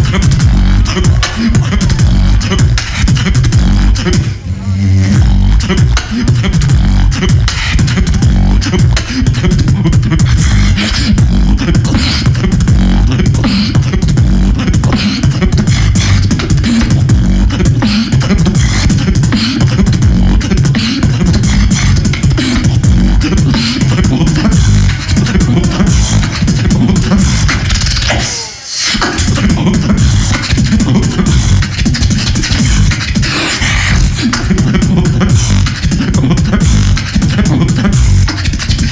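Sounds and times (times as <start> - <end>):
person beatboxing: 0.0 - 38.9.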